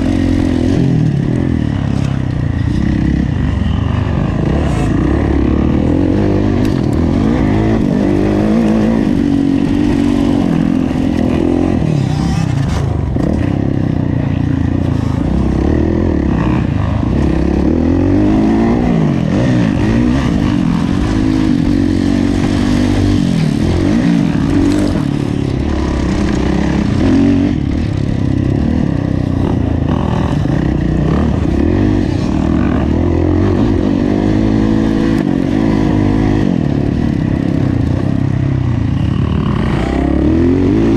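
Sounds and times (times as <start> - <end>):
motocross engine revving: 0.0 - 40.9.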